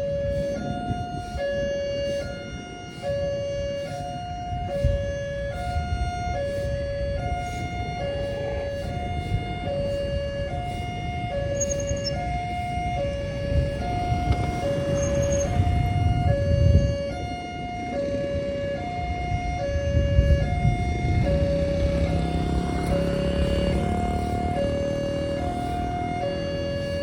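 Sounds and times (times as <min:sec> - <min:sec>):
two-tone warning siren: 0:00.0 - 0:27.0.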